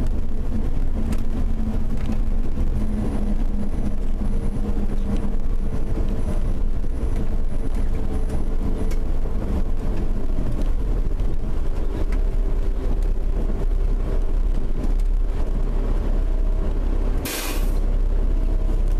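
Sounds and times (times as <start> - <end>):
vehicle engine and tyre rumble: 0.0 - 18.9.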